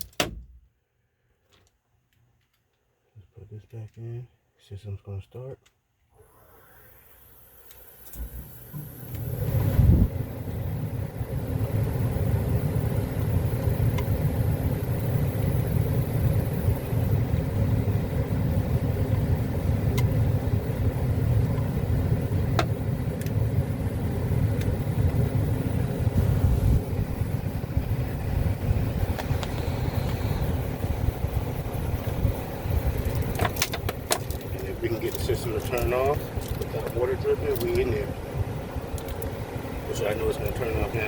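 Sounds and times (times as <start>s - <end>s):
hvac blower rumble: 6.2s - 41.0s.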